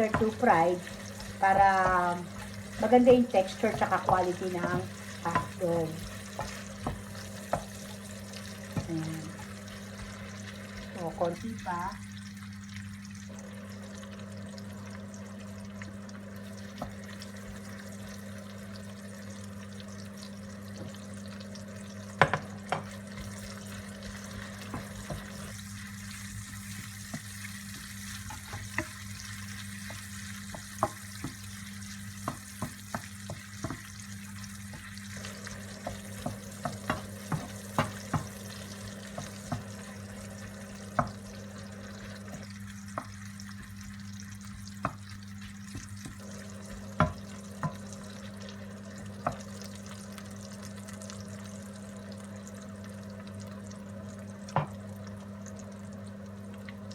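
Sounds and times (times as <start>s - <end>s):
hotdogs sizzling in oil: 0.0s - 56.9s.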